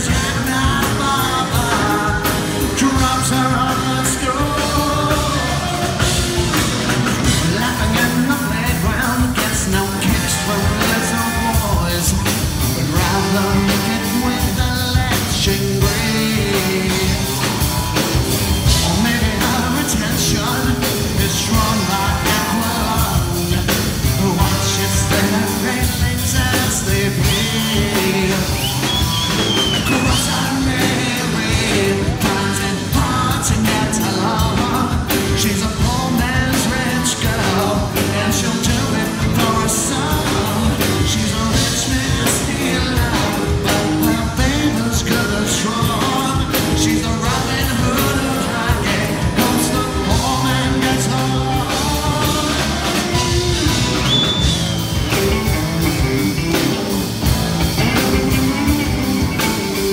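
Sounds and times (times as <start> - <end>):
bass guitar: 0.0 - 59.9
drum kit: 0.0 - 59.9
electric guitars: 0.0 - 59.9
man singing: 0.0 - 59.9.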